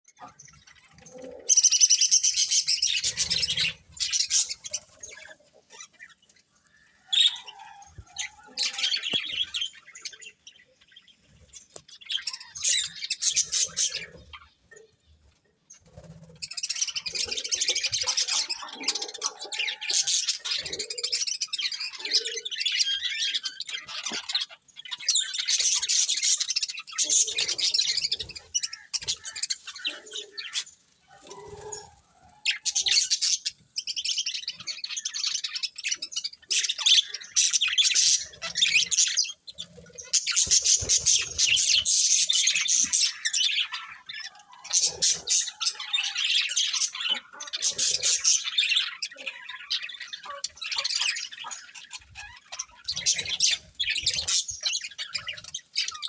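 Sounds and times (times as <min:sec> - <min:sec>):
budgerigars chirping and chattering: 0:00.1 - 0:56.0.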